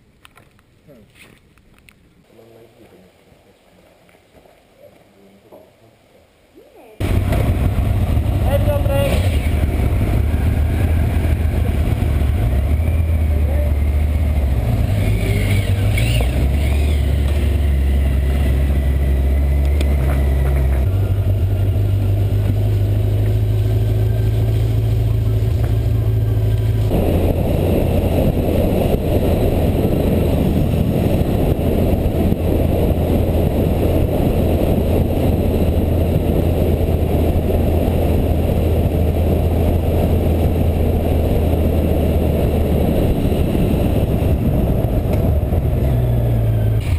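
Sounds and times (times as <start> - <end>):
motorcycle engine running: 7.0 - 46.9
wind rushing over microphone: 7.0 - 46.9.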